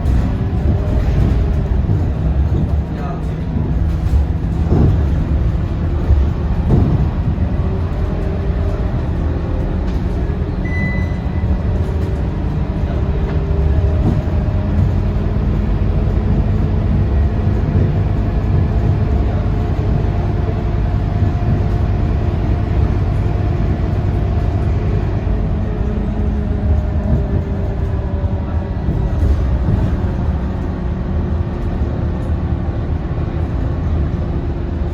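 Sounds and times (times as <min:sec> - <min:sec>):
bus diesel engine droning: 0:00.0 - 0:34.9.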